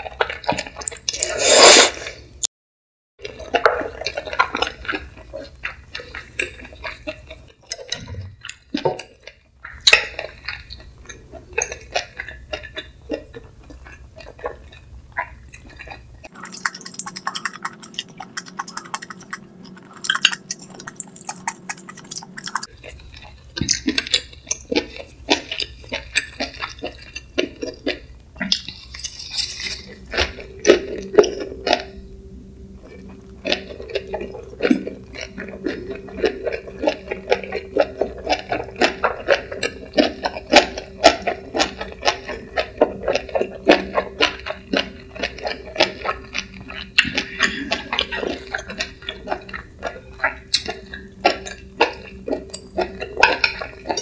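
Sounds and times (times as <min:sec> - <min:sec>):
wet chewing: 0:00.0 - 0:01.9, 0:03.2 - 0:54.0.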